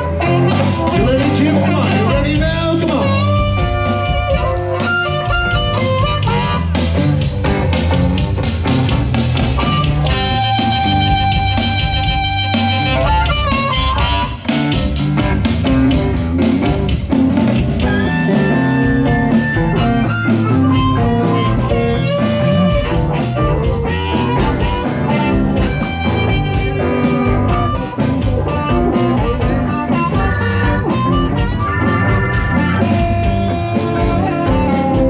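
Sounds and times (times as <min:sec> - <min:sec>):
blues band playing: 0:00.0 - 0:35.0
electric guitar lead notes: 0:00.0 - 0:35.0.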